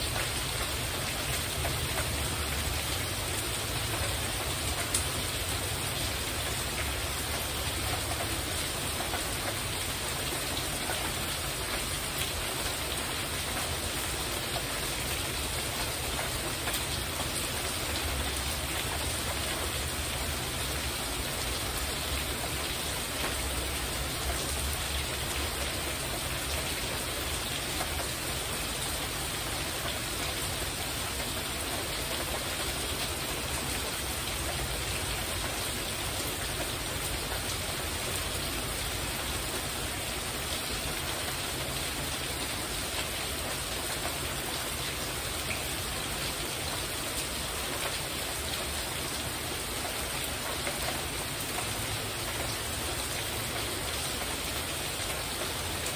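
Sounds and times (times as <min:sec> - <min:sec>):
heavy rain on a roof: 0:00.0 - 0:55.9.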